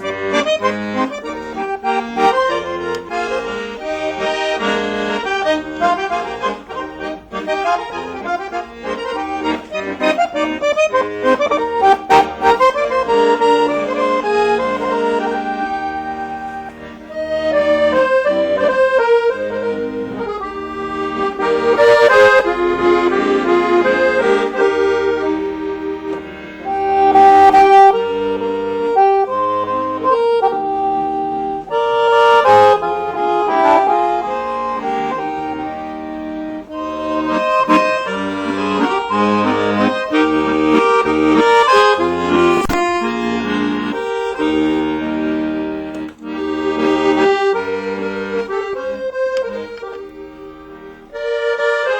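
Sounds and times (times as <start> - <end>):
accordion playing a tune: 0.0 - 51.9.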